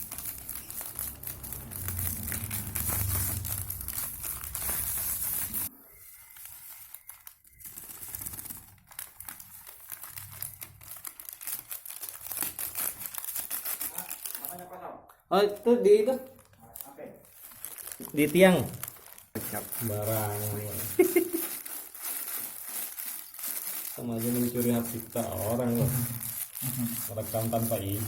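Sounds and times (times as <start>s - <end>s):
crinkling crackly rustling: 0.0s - 14.8s, 15.4s - 28.0s.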